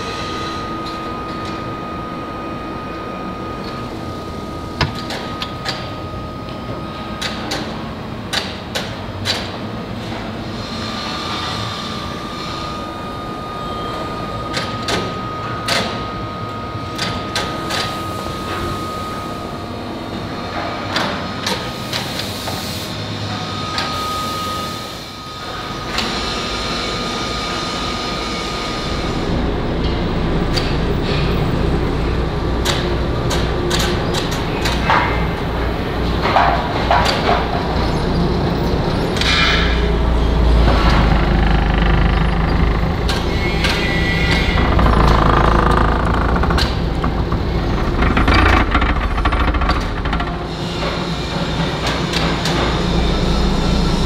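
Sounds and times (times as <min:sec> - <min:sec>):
foundry machinery running: 0:00.0 - 0:21.7, 0:30.9 - 0:54.0.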